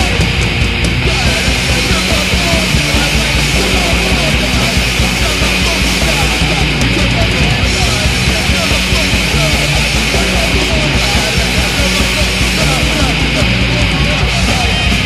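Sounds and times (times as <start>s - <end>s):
distorted electric guitar: 0.0s - 15.0s
punk rock song: 0.0s - 15.0s.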